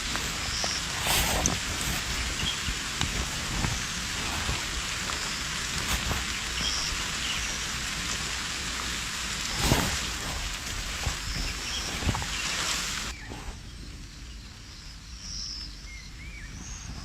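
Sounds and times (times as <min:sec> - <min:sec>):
faint ticks and rustles: 0:00.0 - 0:17.0
steady hiss: 0:00.0 - 0:17.0.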